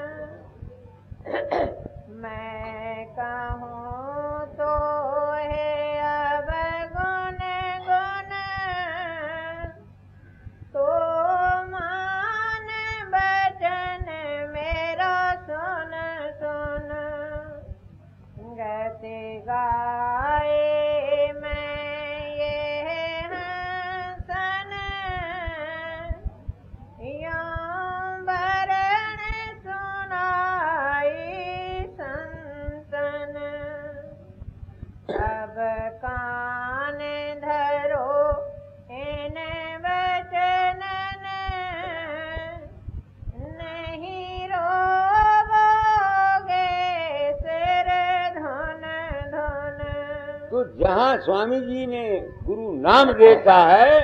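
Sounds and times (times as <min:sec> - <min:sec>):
low hum and crackle: 0:00.0 - 0:54.0
woman singing slowly: 0:01.8 - 0:09.8, 0:10.7 - 0:17.8, 0:18.4 - 0:26.4, 0:27.0 - 0:34.3, 0:35.1 - 0:50.6.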